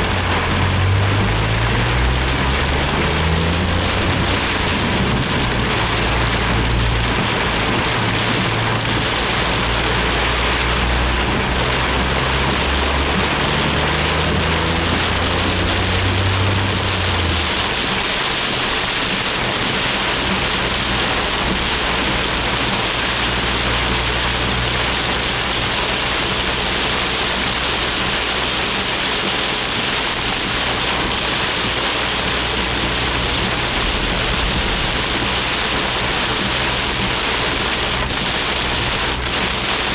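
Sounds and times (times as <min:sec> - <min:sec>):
car engine running: 0:00.0 - 0:39.9
heavy rain on car roof: 0:00.0 - 0:39.9.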